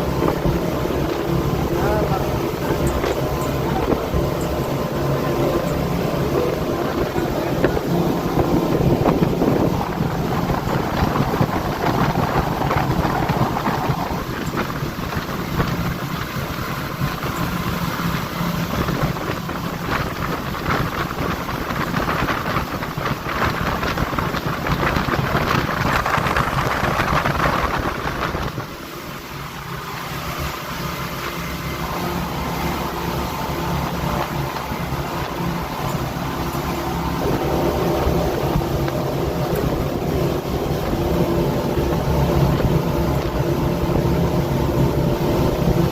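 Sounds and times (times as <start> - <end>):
wind on microphone: 0.0 - 31.0, 31.7 - 45.9
boat engine running: 0.0 - 45.9
rushing water: 0.0 - 45.9.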